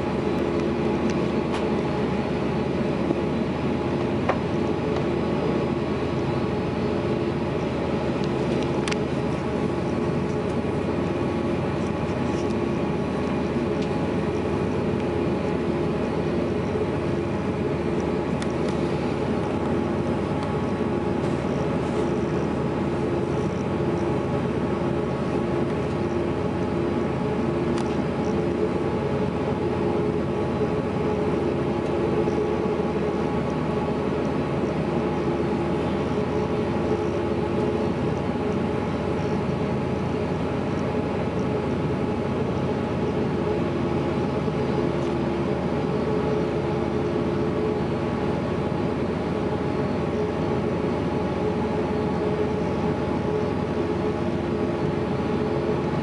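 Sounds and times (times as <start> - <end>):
airliner cabin hum and rush: 0.0 - 56.0.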